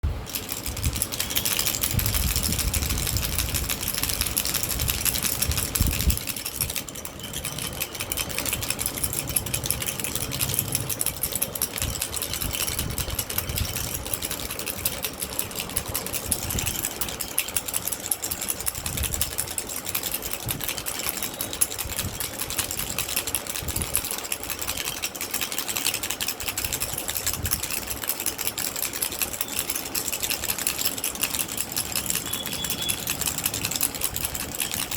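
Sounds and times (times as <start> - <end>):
baby rattle shaken: 0.0 - 34.9.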